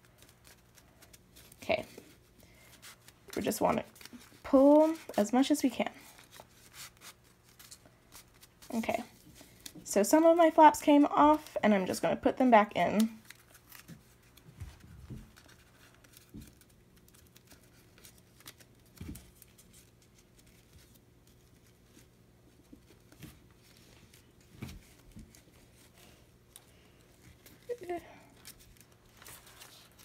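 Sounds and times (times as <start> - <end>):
paper rustling and crinkling: 0.0 - 9.9, 12.8 - 30.0
faint steady hum: 0.0 - 30.0.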